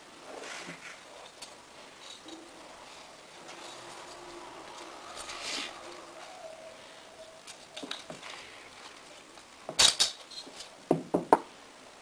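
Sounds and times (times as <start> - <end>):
cloth rustling: 0.2 - 10.8.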